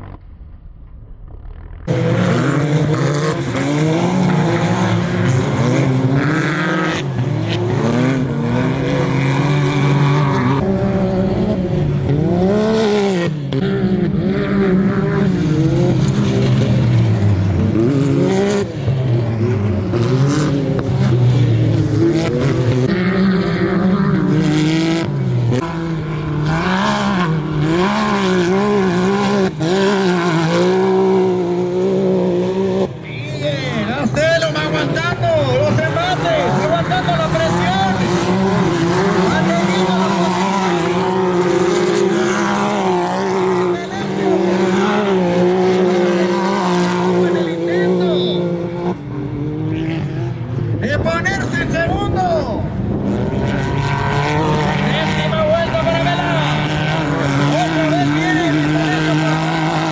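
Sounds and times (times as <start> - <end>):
off-road engines revving hard: 1.8 - 59.9.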